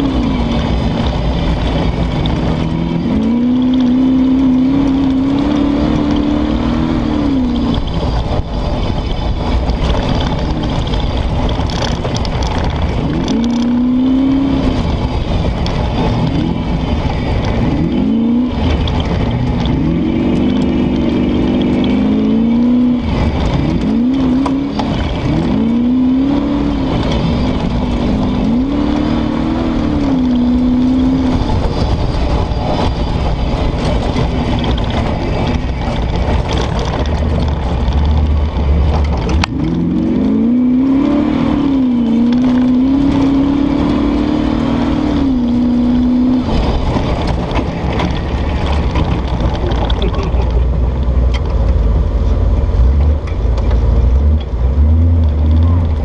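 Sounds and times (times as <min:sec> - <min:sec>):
car engine from inside cabin: 0:00.0 - 0:56.0
road noise: 0:00.0 - 0:56.0.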